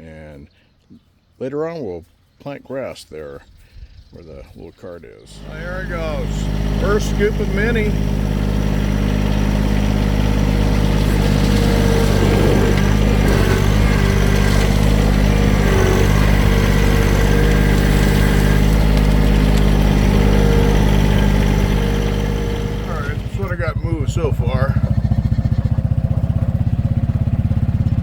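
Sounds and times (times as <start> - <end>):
machine engine running: 5.3 - 28.0.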